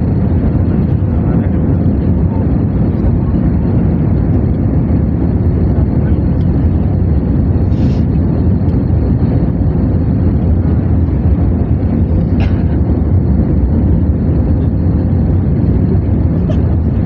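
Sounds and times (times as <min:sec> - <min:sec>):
airplane low rumble: 0:00.0 - 0:17.0.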